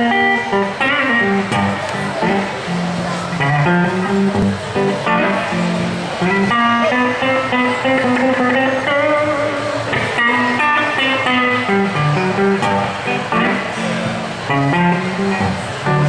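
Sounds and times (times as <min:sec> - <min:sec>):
electric guitar playing blues: 0:00.0 - 0:16.0.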